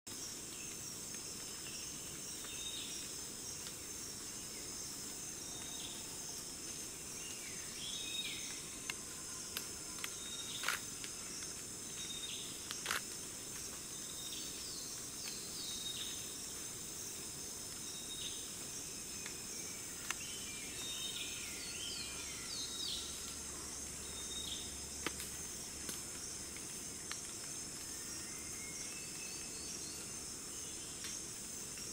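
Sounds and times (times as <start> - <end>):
insects chorus: 0.1 - 31.9.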